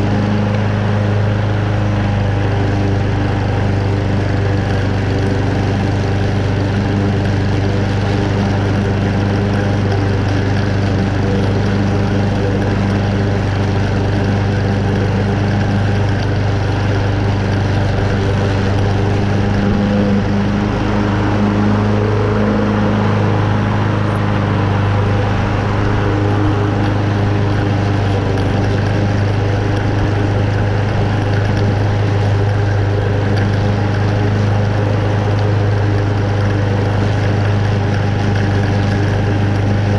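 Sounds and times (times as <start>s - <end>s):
lawn mower engine running: 0.0s - 39.9s
mower blade cutting grass: 0.0s - 39.9s.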